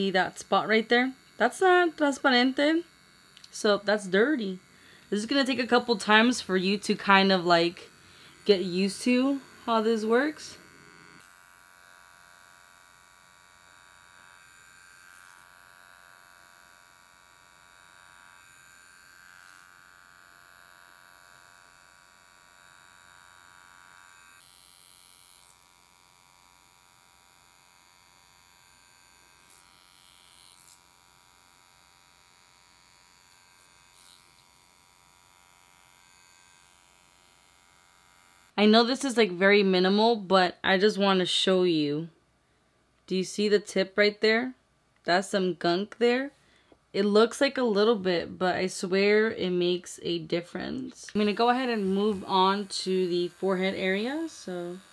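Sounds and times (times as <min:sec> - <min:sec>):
high-pitched electric buzz: 0:00.0 - 0:40.2, 0:48.6 - 0:54.9.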